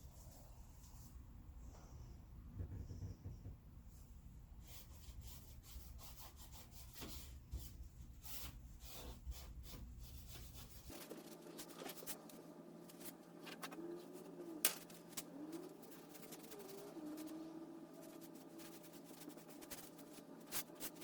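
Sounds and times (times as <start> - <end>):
faint rubbing and scratching: 2.6 - 21.0.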